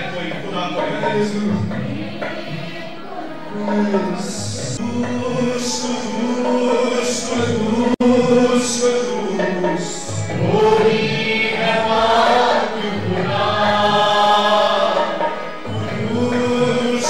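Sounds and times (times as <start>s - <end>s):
man singing into a microphone: 0.0s - 2.4s, 3.5s - 14.6s, 15.8s - 17.0s
other voices singing: 0.0s - 17.0s.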